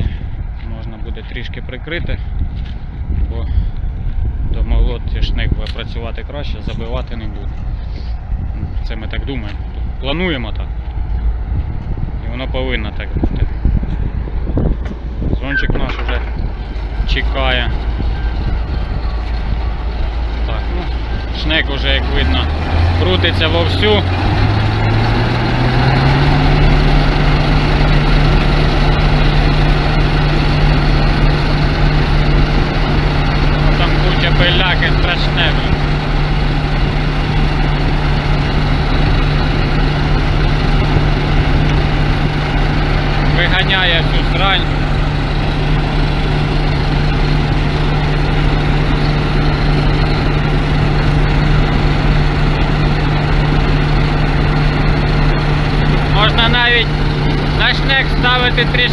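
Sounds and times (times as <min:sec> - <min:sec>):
cleaning fan blowing: 0:00.0 - 0:58.9
combine harvester running: 0:00.0 - 0:58.9.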